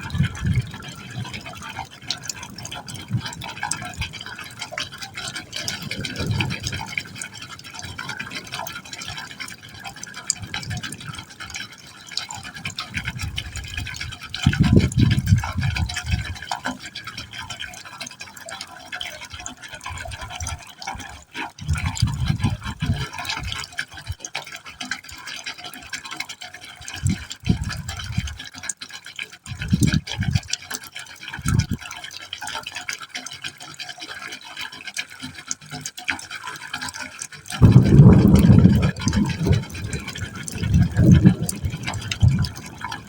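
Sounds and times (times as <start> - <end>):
deep gurgles from a pipe: 0.0 - 43.0
water trickling into a pipe: 0.0 - 43.0.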